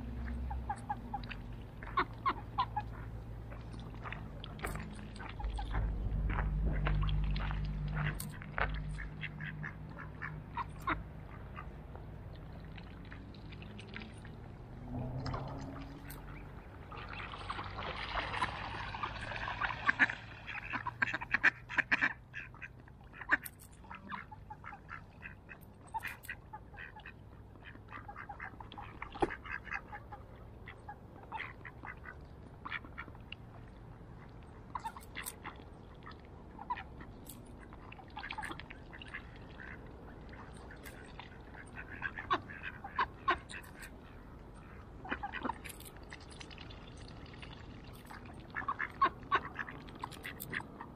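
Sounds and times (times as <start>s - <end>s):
ducks quacking: 0.1s - 11.9s, 15.0s - 33.6s, 34.2s - 45.9s, 47.9s - 50.9s.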